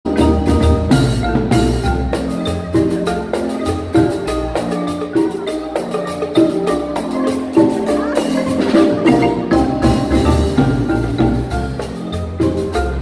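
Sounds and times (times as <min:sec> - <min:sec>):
drums: 0:00.0 - 0:13.0
marimba ensemble playing: 0:00.1 - 0:13.0.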